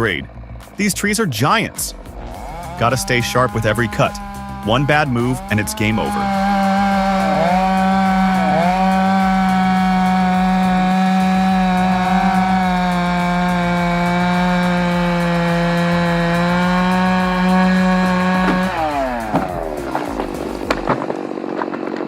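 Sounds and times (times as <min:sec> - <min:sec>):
chainsaw cutting a tree: 0:00.0 - 0:22.0.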